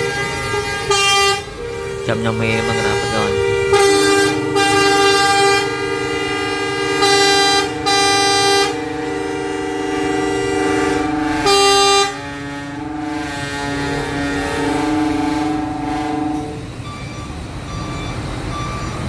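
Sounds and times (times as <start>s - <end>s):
coach air horns blasting: 0.0s - 16.7s.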